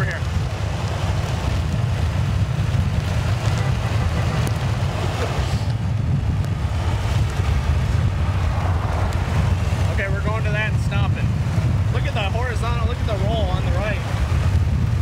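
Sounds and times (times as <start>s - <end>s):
road and wind noise from vehicle: 0.0s - 15.0s
wind rumbling on microphone: 0.0s - 15.0s.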